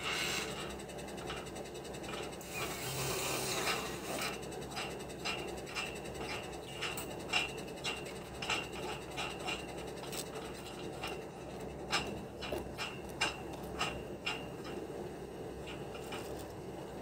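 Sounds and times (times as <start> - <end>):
metallic clicking and scraping: 0.0 - 14.8, 15.6 - 16.6.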